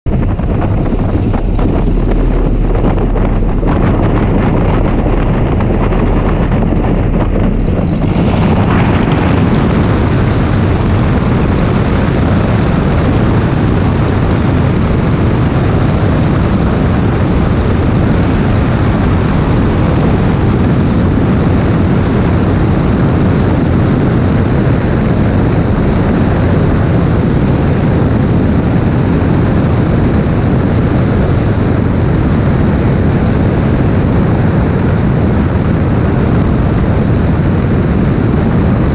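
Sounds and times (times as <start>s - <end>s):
airplane engine and propeller drone: 0.0s - 38.9s.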